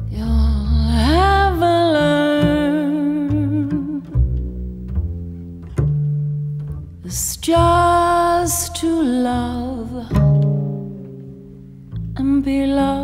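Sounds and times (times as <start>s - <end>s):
double bass: 0.0s - 13.0s.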